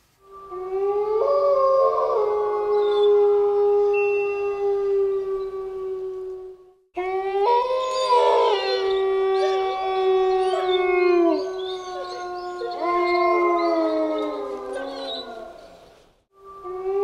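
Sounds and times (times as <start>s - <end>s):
dogs howling: 0.6s - 15.8s.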